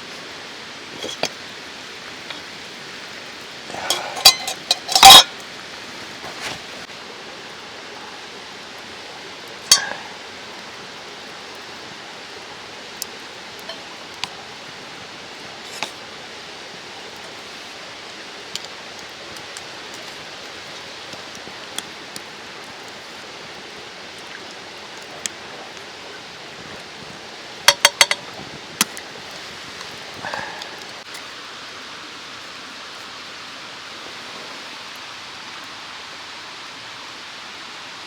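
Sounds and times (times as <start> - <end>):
mountain stream rushing: 0.0 - 38.0.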